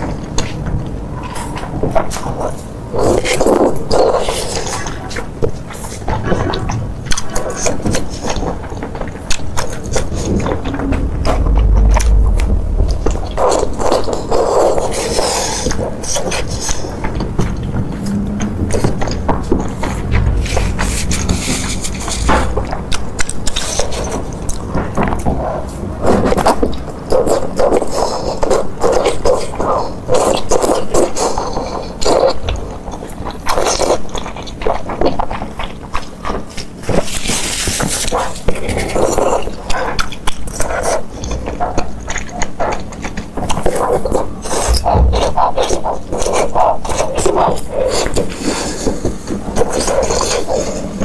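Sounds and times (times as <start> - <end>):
wet chewing and smacking: 0.0 - 51.0.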